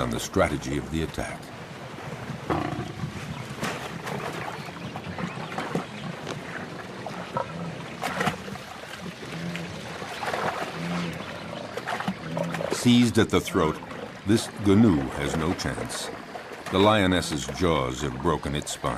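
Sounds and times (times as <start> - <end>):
water splashing and churning: 0.0 - 18.9.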